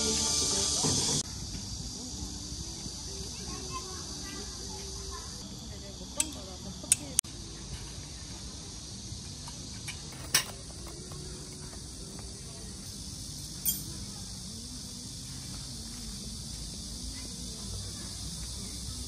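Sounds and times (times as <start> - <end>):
faint distant voices: 0.0 - 19.0
insects droning: 0.0 - 19.0.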